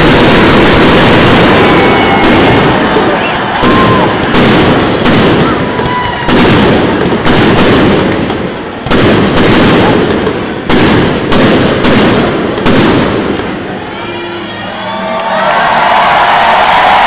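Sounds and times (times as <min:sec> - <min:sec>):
fireworks bursting: 0:00.0 - 0:14.5.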